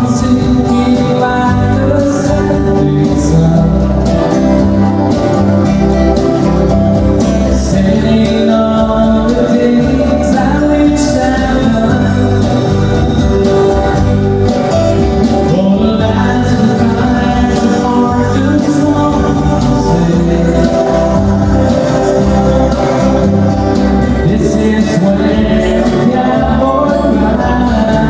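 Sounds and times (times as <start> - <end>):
acoustic guitar strumming: 0.0 - 28.0
man singing: 0.0 - 28.0.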